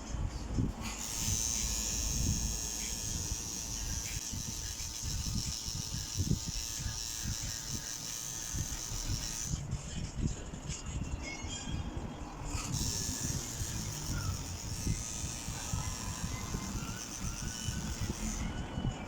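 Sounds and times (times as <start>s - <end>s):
tattoo machine whining: 0.6s - 9.7s, 12.2s - 19.0s.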